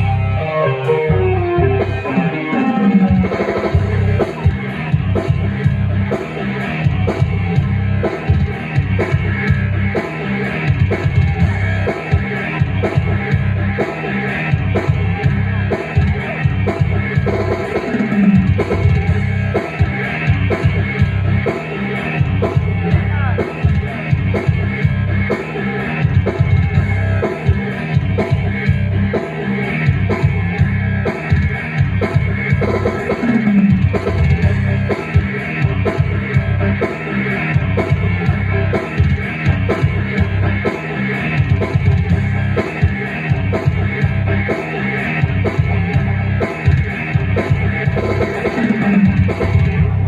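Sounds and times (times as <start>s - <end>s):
rock music on keyboard: 0.0s - 50.0s.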